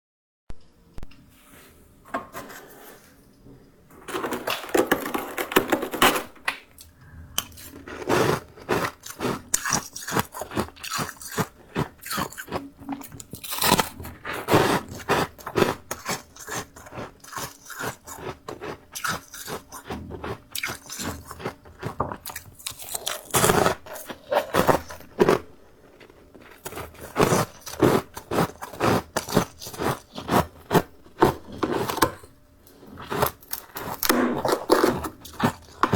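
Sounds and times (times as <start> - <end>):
frost being chewed crunching: 6.7 - 35.9.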